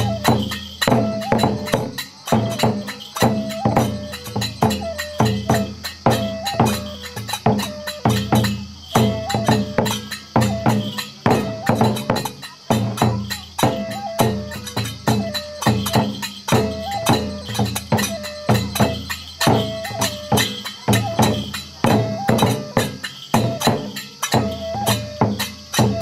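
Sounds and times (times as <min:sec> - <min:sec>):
barrel drum beating: 0:00.0 - 0:26.0
hand cymbals clashing: 0:00.0 - 0:26.0
held high melodic tone: 0:00.0 - 0:26.0.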